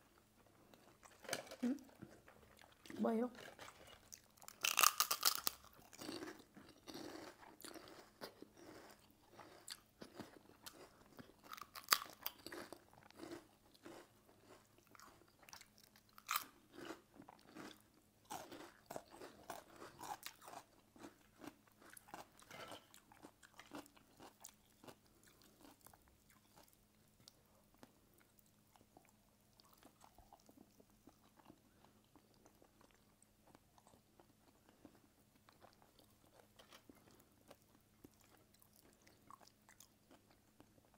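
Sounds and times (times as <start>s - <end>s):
chewing and crunching food: 0.1s - 40.9s.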